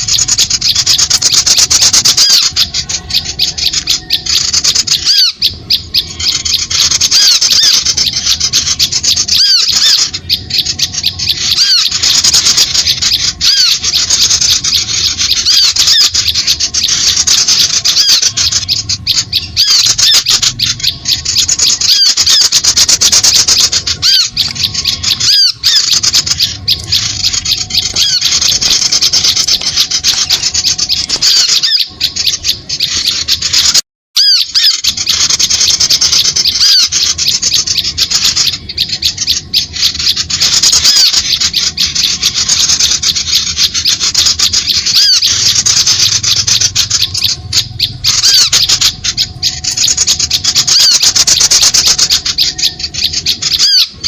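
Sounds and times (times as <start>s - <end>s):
small birds chattering harshly: 0.0s - 54.0s.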